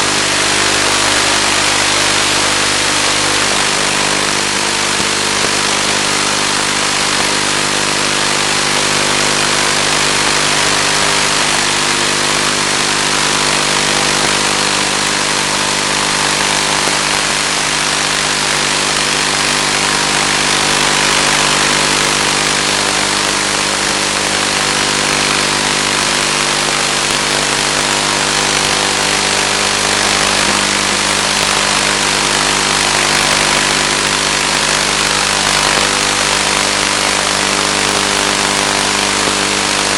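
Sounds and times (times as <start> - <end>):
loud even hiss: 0.0 - 39.9.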